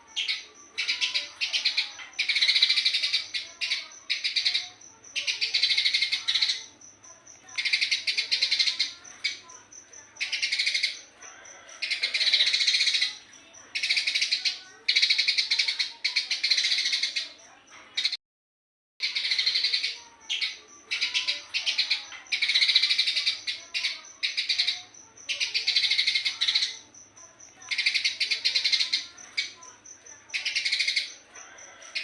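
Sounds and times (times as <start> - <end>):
sparrow chirping: 0.0 - 18.2, 19.0 - 32.0.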